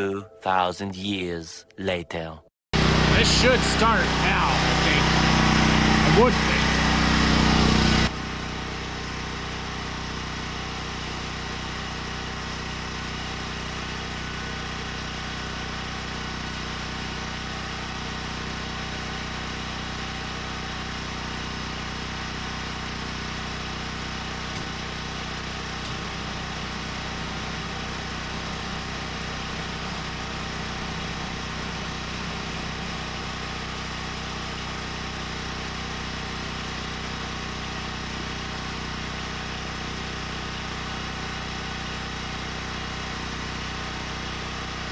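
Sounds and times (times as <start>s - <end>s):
portable generator idling: 2.8s - 44.9s.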